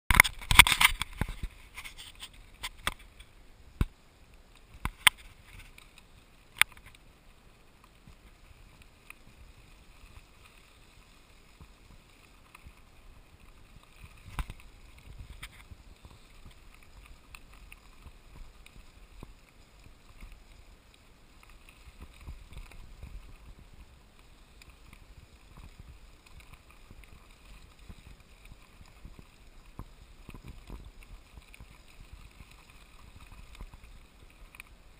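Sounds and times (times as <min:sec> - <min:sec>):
bicycle ride rumble: 0:00.1 - 0:34.9.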